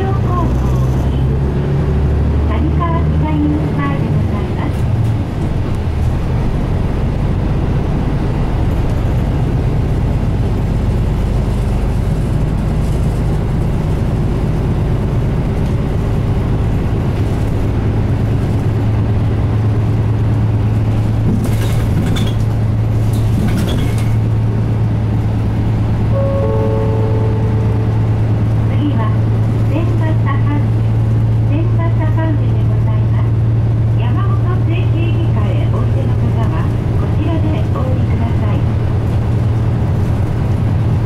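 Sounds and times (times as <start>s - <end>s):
bus diesel engine: 0.0s - 41.0s
road noise: 0.0s - 41.0s.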